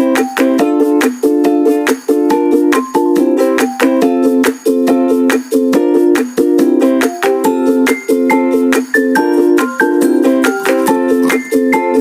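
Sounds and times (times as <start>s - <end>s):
plucked string tune: 0.0s - 12.0s.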